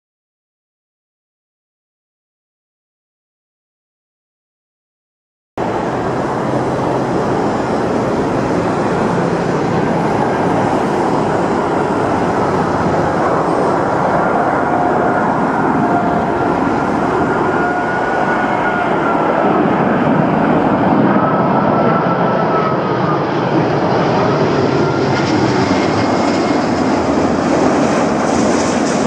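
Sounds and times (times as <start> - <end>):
jet engines rushing with whine: 5.6 - 29.0.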